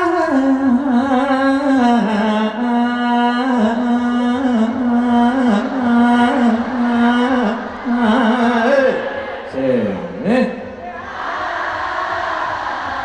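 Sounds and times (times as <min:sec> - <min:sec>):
person singing over loudspeaker: 0:00.0 - 0:11.0.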